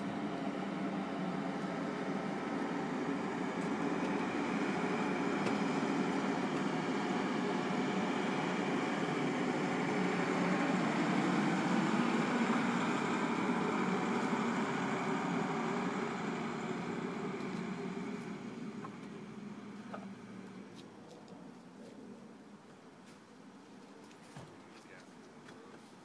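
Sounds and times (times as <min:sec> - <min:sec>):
fire engine driving past: 0:00.0 - 0:22.6.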